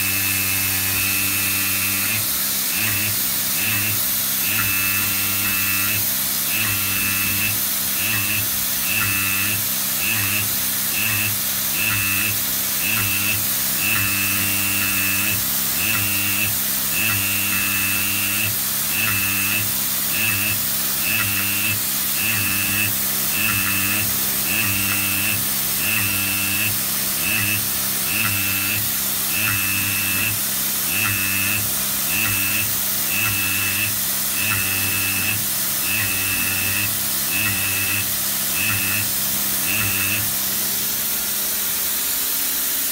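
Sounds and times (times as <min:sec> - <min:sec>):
pneumatic pin buzzing on steel: 0:00.0 - 0:42.9.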